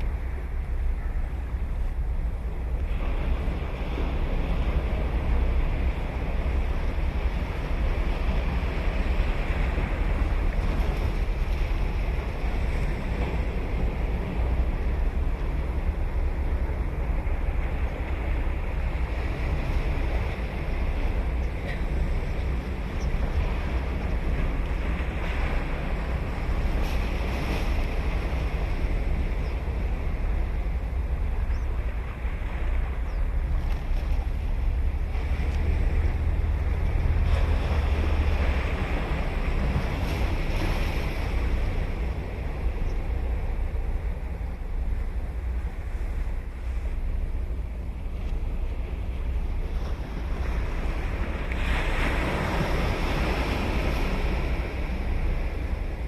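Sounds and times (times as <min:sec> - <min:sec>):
ocean surf breaking: 0:00.0 - 0:56.0
wind buffeting microphone: 0:00.0 - 0:56.0.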